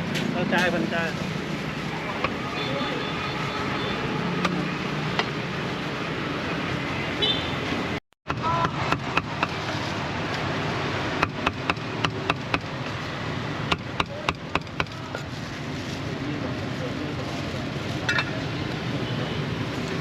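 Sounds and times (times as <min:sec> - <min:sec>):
market chatter: 0:00.0 - 0:10.4, 0:11.3 - 0:20.0
traffic hum: 0:00.0 - 0:20.0.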